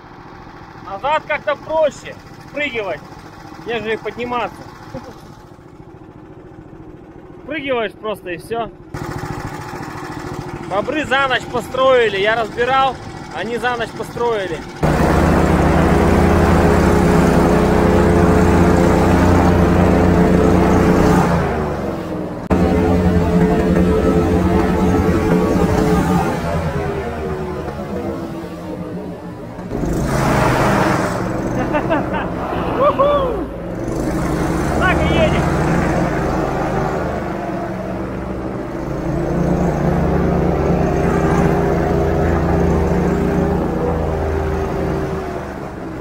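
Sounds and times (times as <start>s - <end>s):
airboat engine and propeller: 0.0s - 46.0s.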